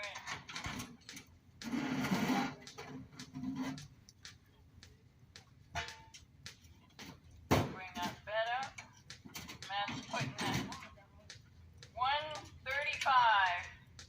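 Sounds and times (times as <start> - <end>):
car parts clicking and knocking: 0.0 - 13.2.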